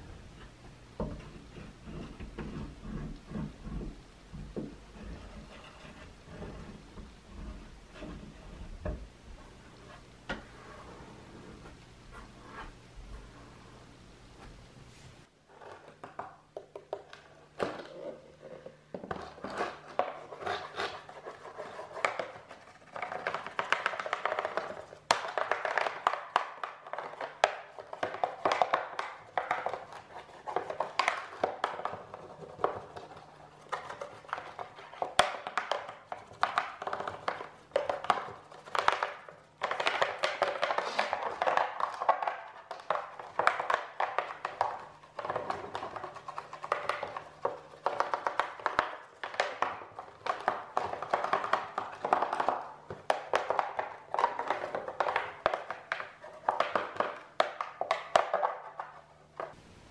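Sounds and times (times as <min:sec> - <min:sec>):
wax candle scraping plastic: 0:00.4 - 0:08.8, 0:15.0 - 0:57.2.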